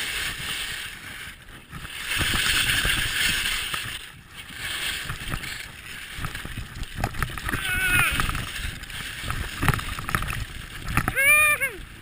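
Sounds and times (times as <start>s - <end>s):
skis scraping over snow: 0.0s - 11.1s.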